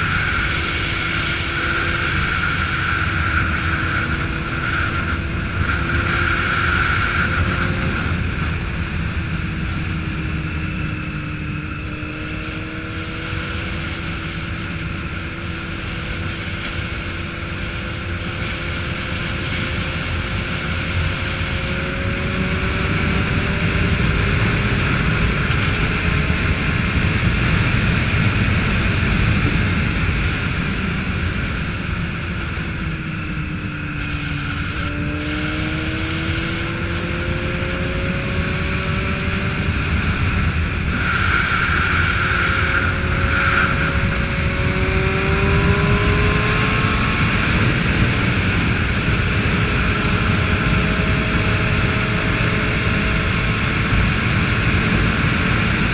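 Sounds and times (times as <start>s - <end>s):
motorcycle engine: 0.0s - 55.9s
wind and road noise: 0.0s - 55.9s.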